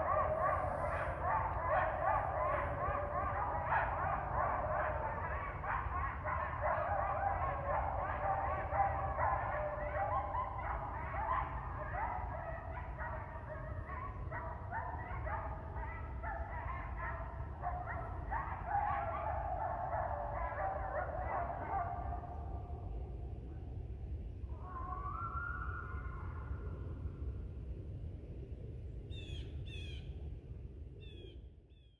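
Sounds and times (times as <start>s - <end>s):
coyotes howling and yipping: 0.0s - 23.0s, 24.5s - 27.2s.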